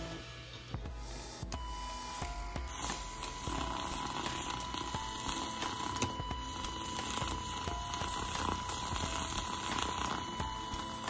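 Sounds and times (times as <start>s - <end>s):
milk frother motor whirring: 1.4s - 11.0s.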